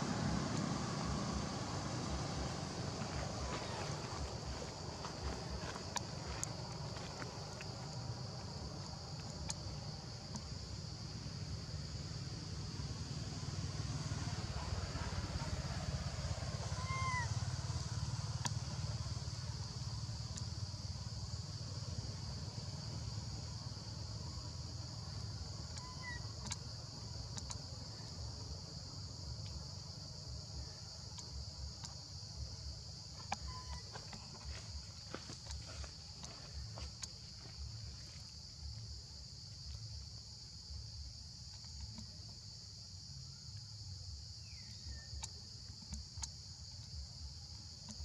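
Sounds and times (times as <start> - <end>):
high insect chorus: 0.0 - 48.0.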